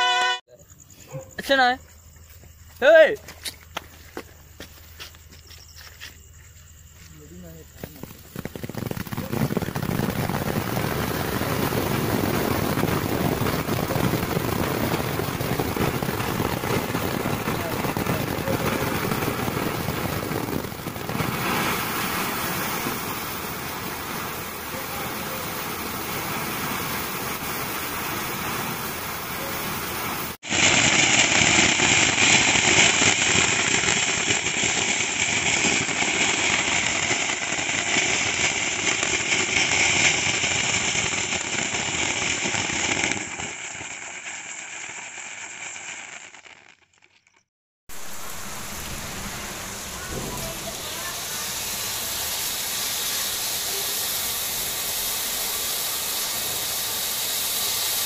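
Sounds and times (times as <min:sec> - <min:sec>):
firework fountain hissing: 0:00.0 - 0:00.4, 0:07.1 - 0:58.0.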